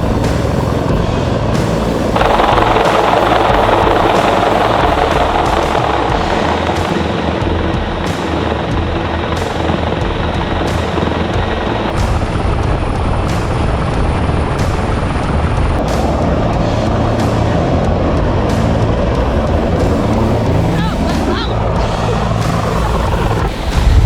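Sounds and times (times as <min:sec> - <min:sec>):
helicopter rotor and engine: 0:00.0 - 0:24.0
wind rushing across microphone: 0:00.0 - 0:24.0.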